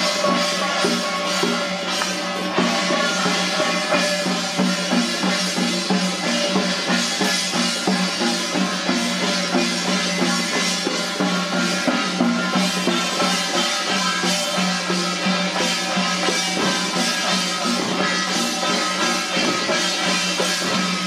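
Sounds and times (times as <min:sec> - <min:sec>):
frame drums beaten with sticks: 0:00.0 - 0:21.0.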